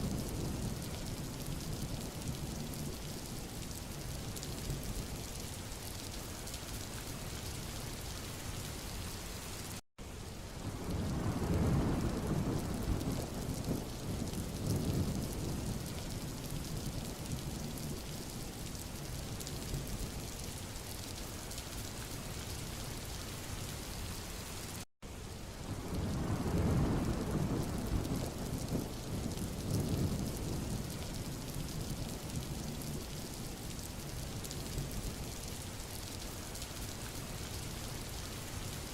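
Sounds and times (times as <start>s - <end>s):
rain falling on road: 0.0s - 38.9s.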